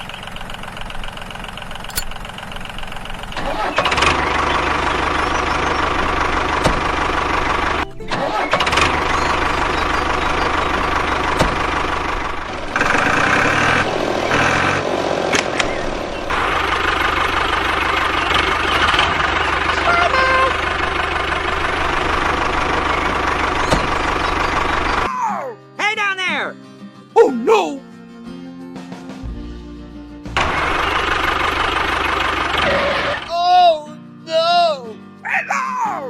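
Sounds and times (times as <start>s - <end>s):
engine running: 0.0s - 25.1s, 29.3s - 33.3s.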